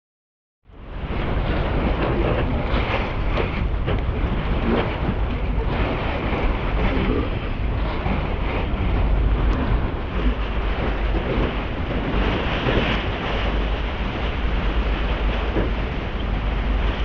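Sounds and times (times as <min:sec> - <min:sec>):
water rushing along hull: 0:00.6 - 0:17.0
wind rumbling on microphone: 0:00.6 - 0:17.0.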